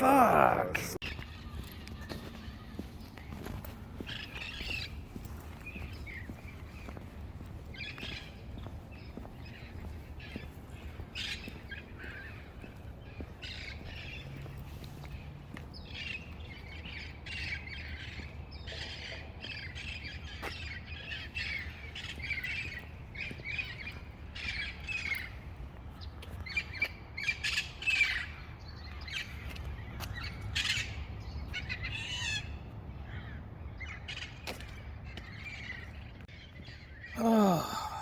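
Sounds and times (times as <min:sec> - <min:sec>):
flock of birds chirping: 0:01.0 - 0:38.0.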